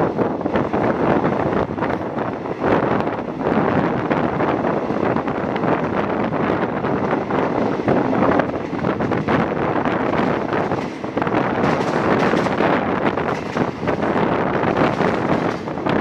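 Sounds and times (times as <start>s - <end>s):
train running noise: 0.0s - 16.0s
wind rushing over microphone: 0.0s - 16.0s.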